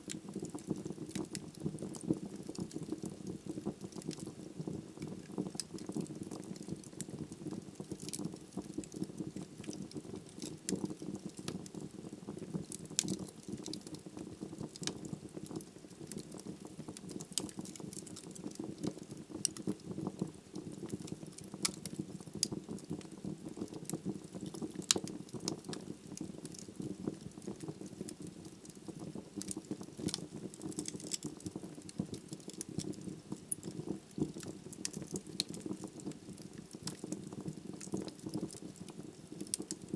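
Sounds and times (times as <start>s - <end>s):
fire burning with crackles: 0.0s - 39.9s.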